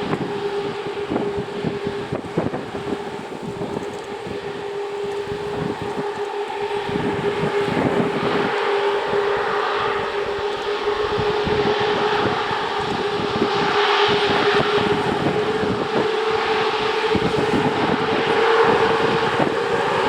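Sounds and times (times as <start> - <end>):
jet airliner engines running: 0.0 - 20.0.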